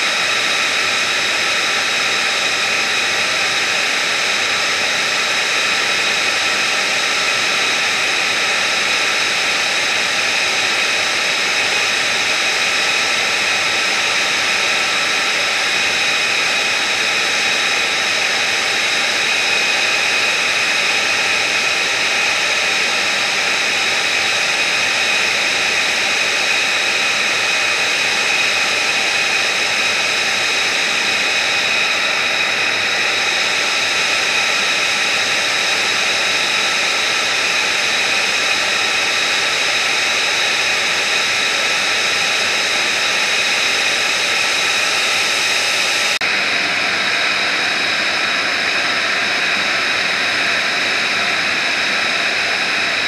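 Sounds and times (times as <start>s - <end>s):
jet engine idling whine: 0.0s - 53.0s.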